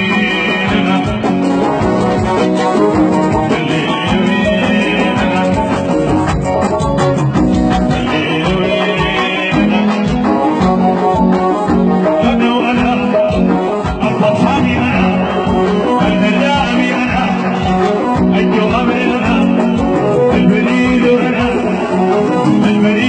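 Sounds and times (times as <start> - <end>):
dance music: 0.0 - 23.0
person singing: 0.0 - 23.0.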